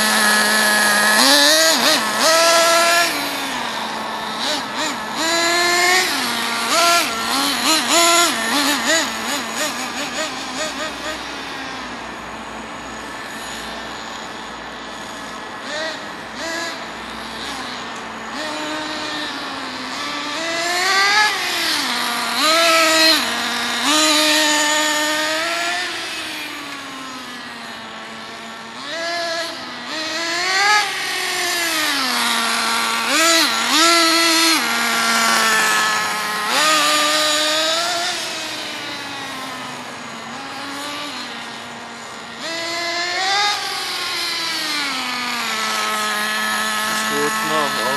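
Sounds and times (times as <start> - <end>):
electric toy car motor whining: 0.0 - 47.9.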